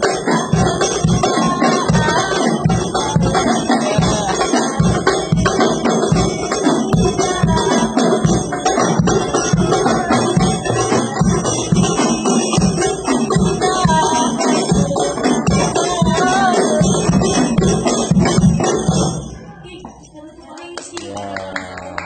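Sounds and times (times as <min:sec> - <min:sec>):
frame drums playing fast rhythm: 0:00.0 - 0:19.4.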